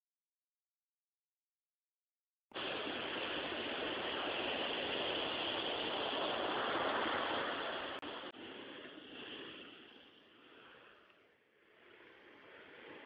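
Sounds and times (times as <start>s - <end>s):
surf washing onto a beach: 2.6s - 13.0s.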